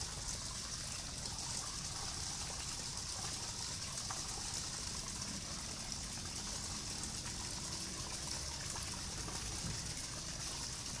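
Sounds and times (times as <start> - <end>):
constant high hiss: 0.0 - 11.0
rushing and trickling water: 0.0 - 11.0.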